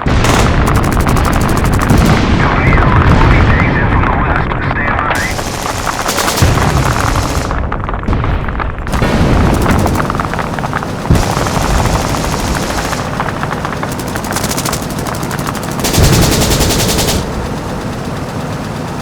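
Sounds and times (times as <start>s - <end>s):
machine-gun fire: 0.0s - 17.6s
steady low rumble: 0.0s - 19.0s.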